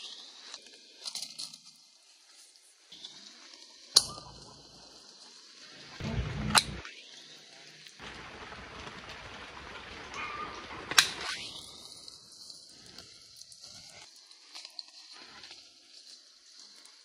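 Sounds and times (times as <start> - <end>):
rustle of leaves and branches: 0.0 - 17.0.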